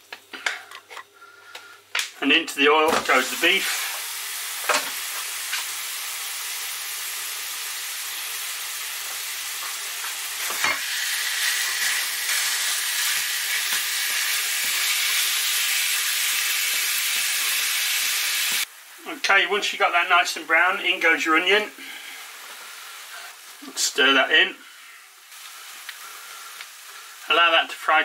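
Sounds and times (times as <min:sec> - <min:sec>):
meat sizzling in a frying pan: 0:02.9 - 0:28.0.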